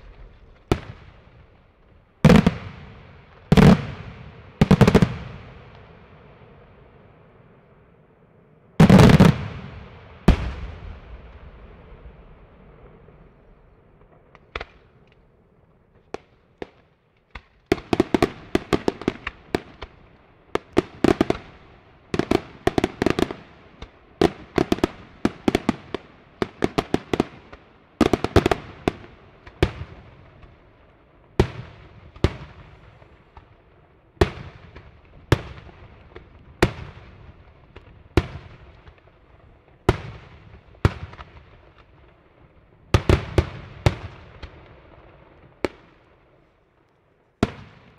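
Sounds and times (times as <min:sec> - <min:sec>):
fireworks bursting with bangs: 0:00.0 - 0:06.6, 0:08.8 - 0:15.1, 0:15.9 - 0:46.4, 0:47.4 - 0:47.9.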